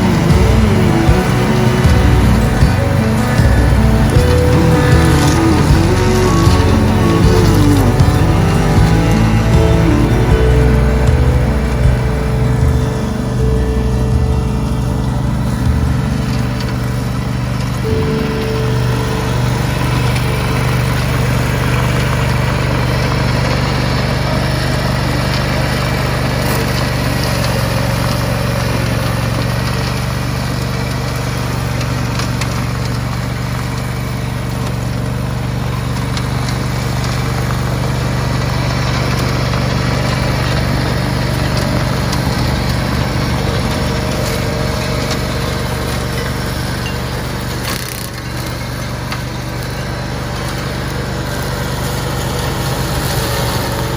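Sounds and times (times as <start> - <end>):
tractor engine humming: 0.0 - 53.9.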